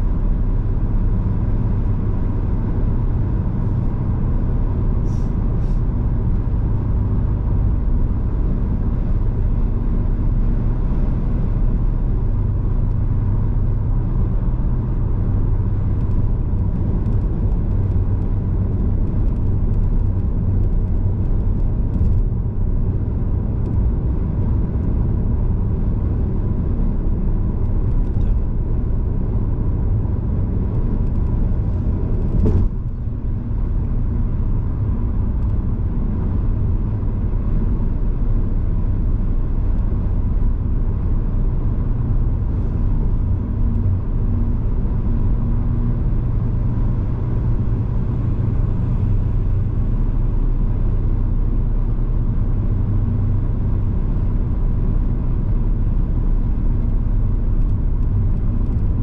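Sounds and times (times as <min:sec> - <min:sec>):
car road and tyre rumble: 0:00.0 - 0:59.0.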